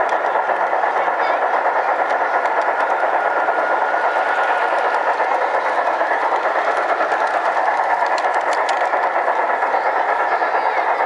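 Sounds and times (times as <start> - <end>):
model train wheels rattling on rail: 0.0 - 11.0.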